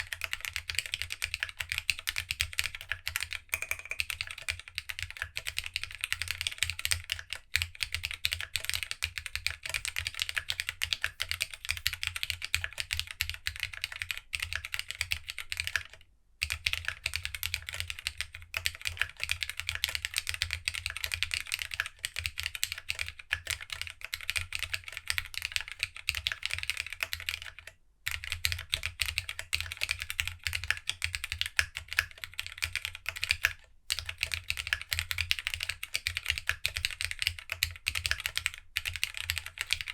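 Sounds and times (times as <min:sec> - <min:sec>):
mechanical keyboard typing: 0:00.0 - 0:16.0, 0:16.6 - 0:39.9.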